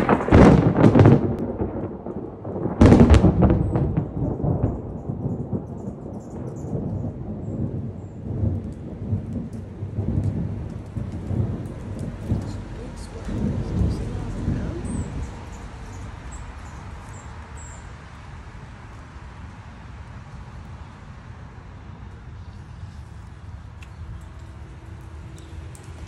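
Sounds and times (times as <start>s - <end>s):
thunder crack and rumble: 0.0s - 21.0s, 21.6s - 26.0s
rain falling: 0.0s - 26.0s.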